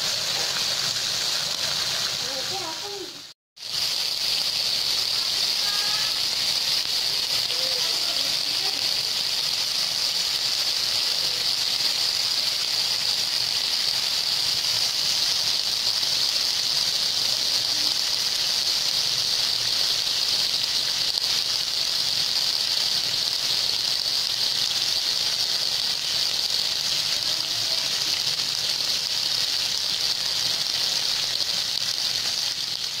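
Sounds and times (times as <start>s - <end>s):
beef sizzling on a griddle: 0.0s - 33.0s.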